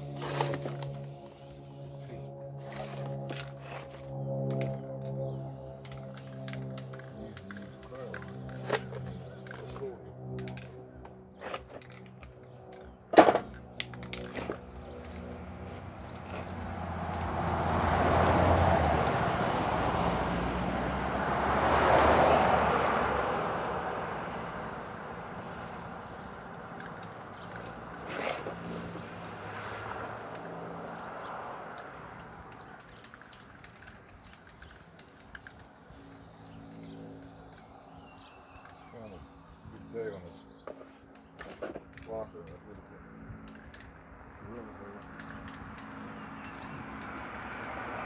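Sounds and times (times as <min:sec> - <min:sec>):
faint outdoor background: 0:00.0 - 0:48.0
vehicles passing by: 0:00.0 - 0:48.0.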